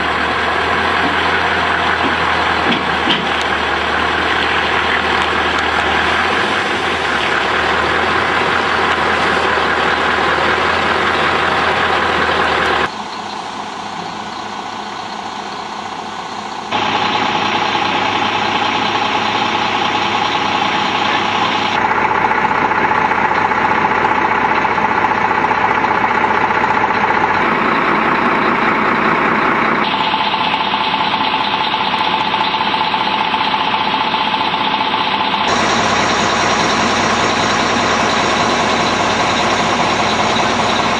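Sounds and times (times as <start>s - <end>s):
diesel lorry engine idling: 0.0s - 40.9s.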